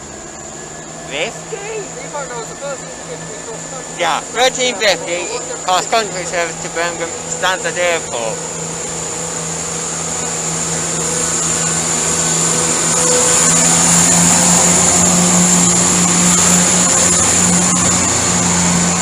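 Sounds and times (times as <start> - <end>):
diesel train engine running: 0.0 - 19.0.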